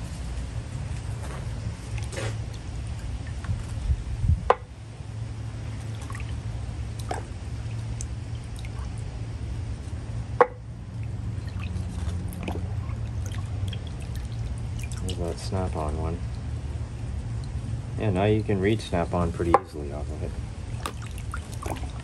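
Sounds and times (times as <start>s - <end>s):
steady low hum: 0.0s - 22.0s
liquid dripping and sloshing: 0.9s - 3.8s, 5.4s - 17.8s, 19.5s - 22.0s.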